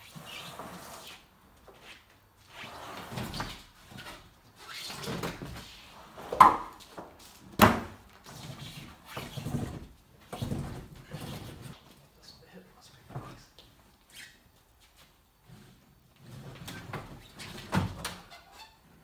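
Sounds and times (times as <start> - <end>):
rubber mats scraping and sliding: 0.0 - 12.0, 14.0 - 19.0.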